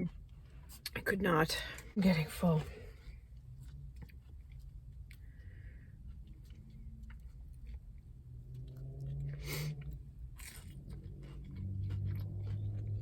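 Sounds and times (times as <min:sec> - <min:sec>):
person chewing food: 0:00.0 - 0:01.0, 0:02.5 - 0:13.0.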